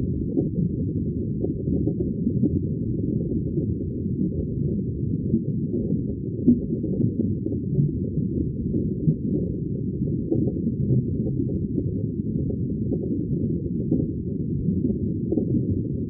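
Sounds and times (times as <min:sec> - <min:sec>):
underwater bubbling rumble: 0:00.0 - 0:16.0.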